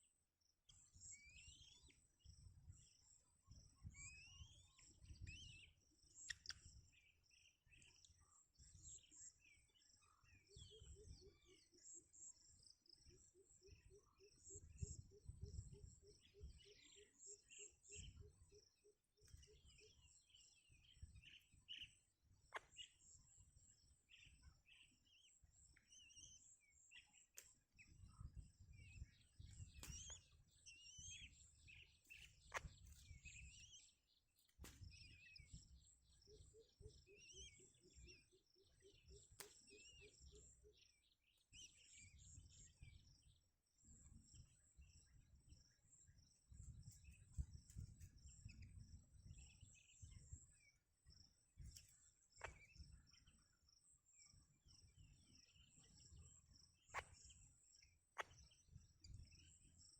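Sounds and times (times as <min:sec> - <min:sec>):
faint high bird chirps: 0:00.0 - 0:59.9.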